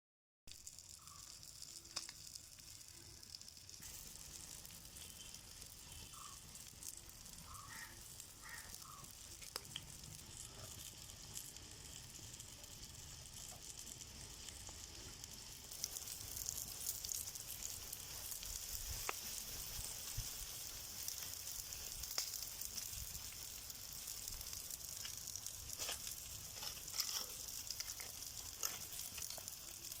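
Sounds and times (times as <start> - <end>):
fish frying in hot oil: 0.5 - 30.0.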